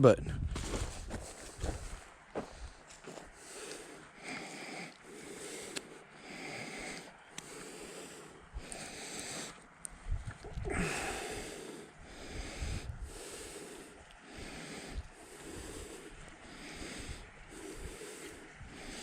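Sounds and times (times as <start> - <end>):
person breathing: 1.1 - 19.0.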